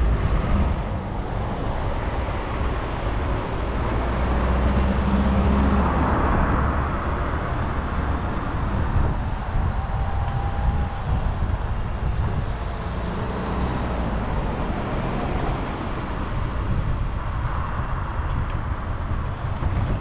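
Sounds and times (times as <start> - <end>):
cars passing in light traffic: 0.0 - 20.0
wind and road noise: 0.0 - 20.0.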